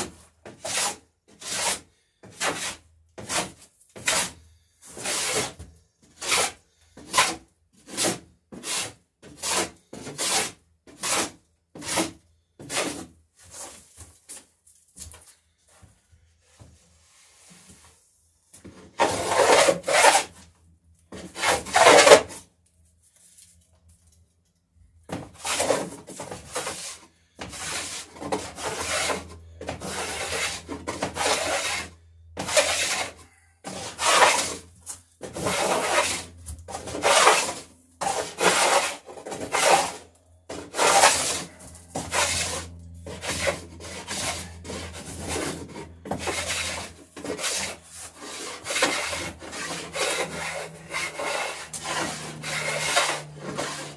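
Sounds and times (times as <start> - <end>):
hand plane cutting wood: 0.0 - 13.1, 18.8 - 20.5, 21.1 - 22.4, 25.1 - 53.9.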